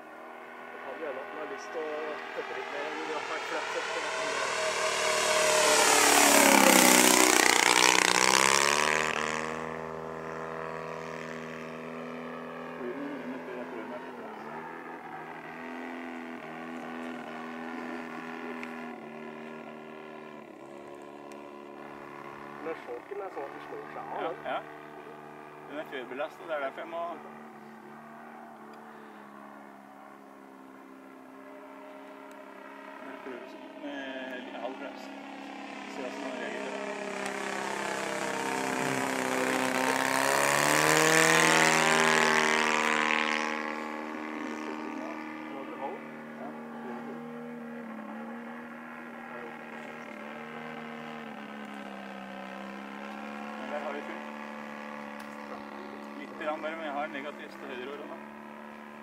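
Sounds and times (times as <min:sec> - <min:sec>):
model airplane engine droning: 0:00.0 - 0:59.0.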